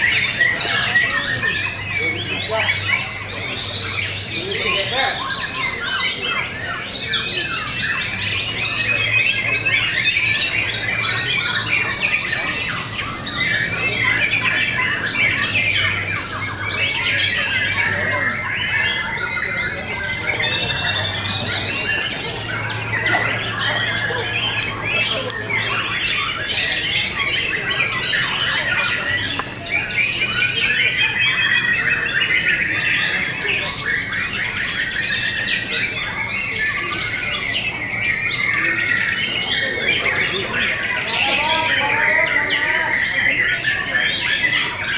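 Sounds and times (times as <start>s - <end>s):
birds singing: 0.0s - 44.9s.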